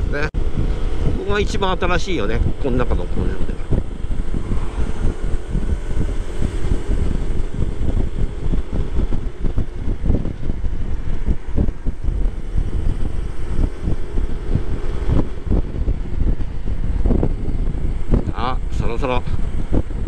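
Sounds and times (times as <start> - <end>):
wind buffeting microphone: 0.0 - 20.0
scooter engine running: 0.4 - 20.0.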